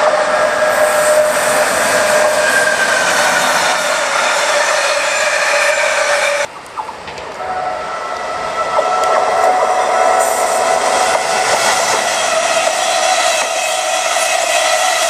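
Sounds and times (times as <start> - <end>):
wheels squealing on rails: 0.0 - 6.5, 7.4 - 15.0
high-speed train approaching: 0.0 - 15.0.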